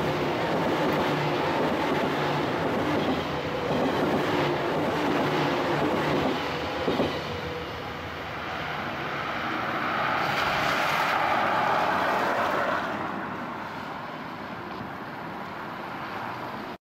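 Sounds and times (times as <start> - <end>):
electric train rushing rumble: 0.0 - 14.6.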